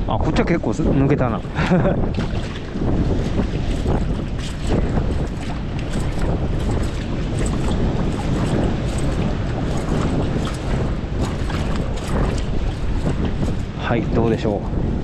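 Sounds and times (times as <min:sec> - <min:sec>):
wind buffeting microphone: 0:00.0 - 0:15.0
sea water splashing over rock: 0:01.7 - 0:14.6.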